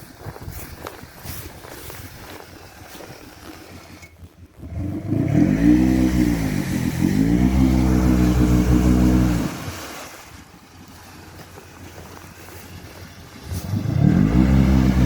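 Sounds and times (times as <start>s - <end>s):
low faint rumble: 0.0s - 15.0s
utility vehicle engine revving: 0.0s - 15.0s.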